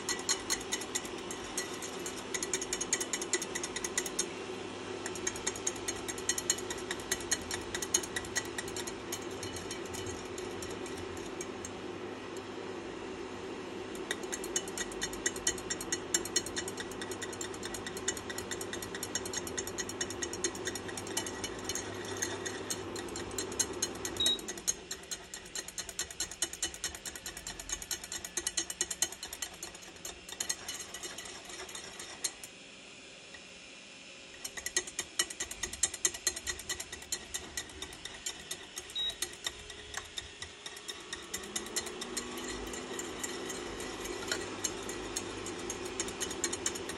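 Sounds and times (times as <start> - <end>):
whisk beating liquid in a saucepan: 0.0 - 12.0, 13.9 - 32.5, 34.3 - 46.9
steady low hum: 0.0 - 46.9.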